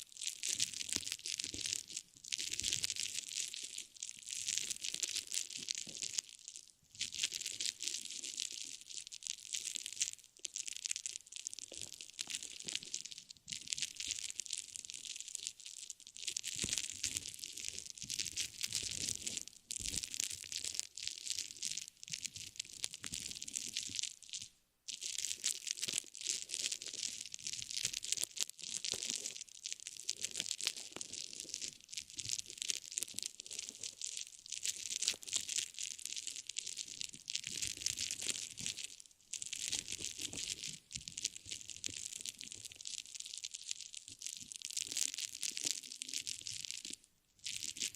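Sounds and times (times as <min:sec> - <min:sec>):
object crinkling and crackling: 0:00.0 - 0:47.9.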